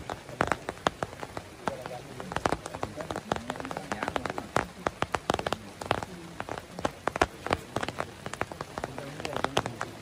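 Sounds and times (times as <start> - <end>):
raindrops tapping a surface: 0.0 - 10.0.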